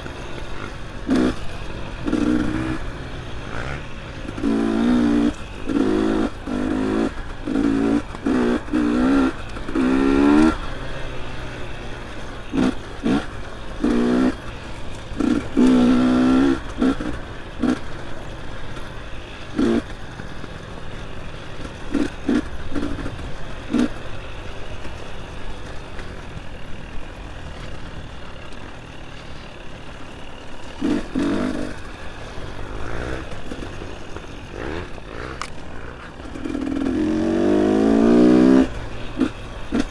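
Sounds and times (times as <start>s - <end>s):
dirt bike engine revving: 0.0s - 25.8s, 27.8s - 39.9s
knocks and clatter from bike: 0.0s - 39.9s.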